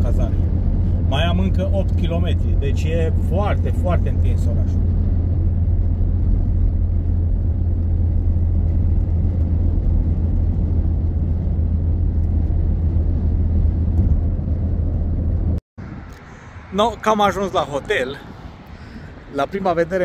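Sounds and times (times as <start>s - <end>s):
car engine and tyres droning: 0.0s - 20.0s.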